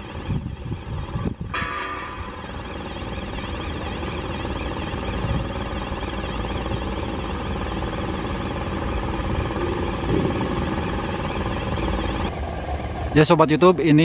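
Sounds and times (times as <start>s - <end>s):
steady machinery noise: 0.0s - 14.0s
faint high warbling tone: 1.5s - 13.6s.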